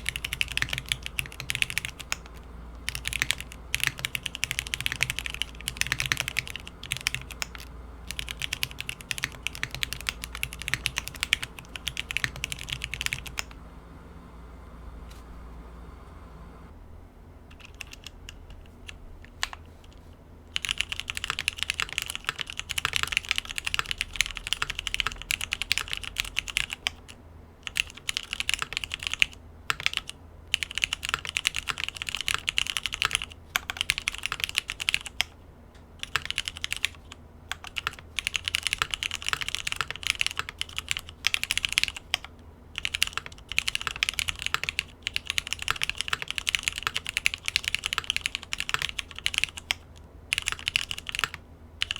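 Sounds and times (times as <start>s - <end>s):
mechanical keyboard typing: 0.0s - 13.6s, 17.5s - 35.4s, 36.0s - 51.9s.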